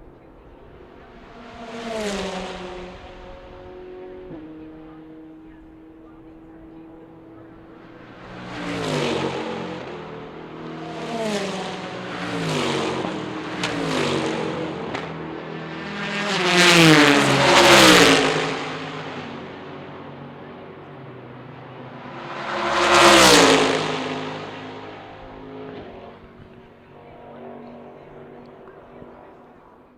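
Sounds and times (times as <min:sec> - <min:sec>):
race cars passing at speed: 0:00.0 - 0:29.9.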